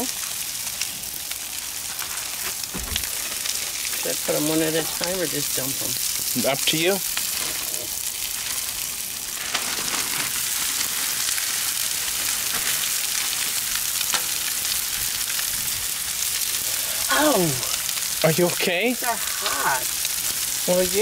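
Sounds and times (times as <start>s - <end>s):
chicken sizzling on a griddle: 0.0s - 21.0s.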